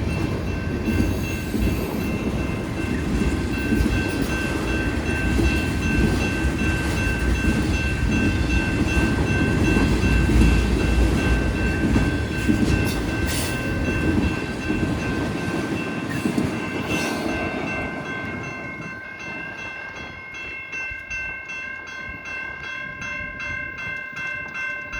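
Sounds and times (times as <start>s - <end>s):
freight train rumbling past: 0.0s - 23.6s
high ringing tones: 0.0s - 24.9s
wheels clacking on rail joints: 0.0s - 24.9s.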